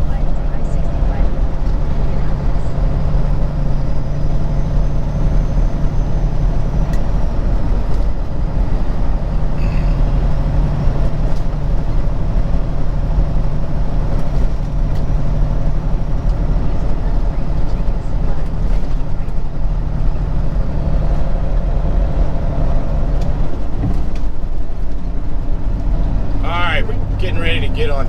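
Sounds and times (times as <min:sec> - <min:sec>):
truck engine and road noise drone: 0:00.0 - 0:28.0.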